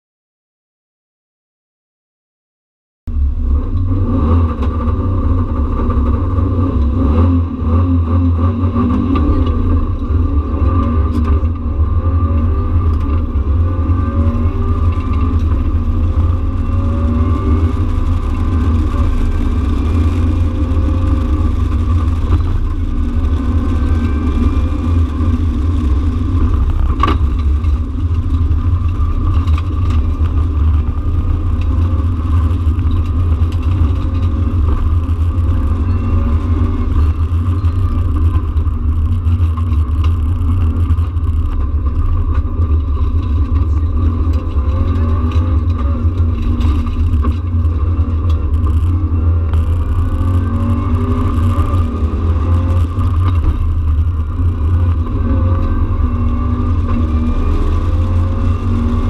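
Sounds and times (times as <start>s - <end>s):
drivetrain and road rumble: 3.1s - 59.0s
rally car engine revving: 3.1s - 59.0s.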